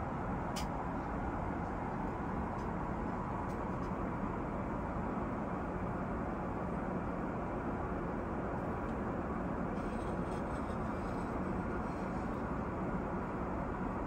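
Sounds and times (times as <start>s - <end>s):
airplane cabin airflow and engine drone: 0.0s - 14.0s.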